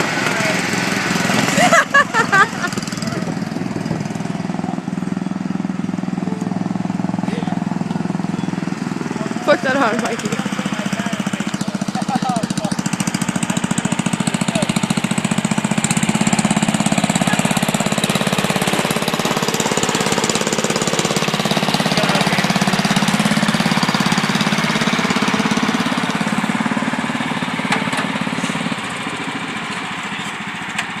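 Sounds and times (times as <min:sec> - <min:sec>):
tractor engines running hard: 0:00.0 - 0:31.0.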